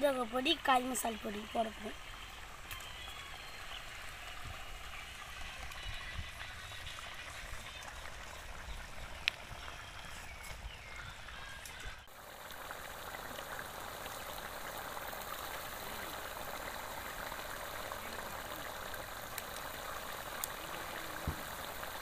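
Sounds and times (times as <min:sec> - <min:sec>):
gravy bubbling in a pot: 0:00.2 - 0:11.0, 0:12.1 - 0:22.0.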